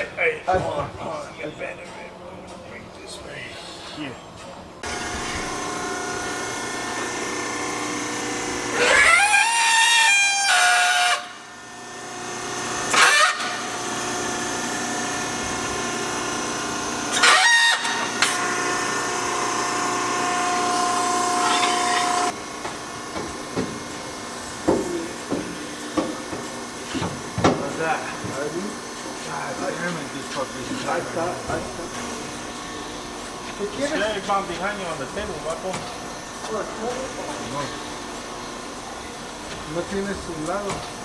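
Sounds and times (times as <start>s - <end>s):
power tool whining: 4.8s - 41.0s.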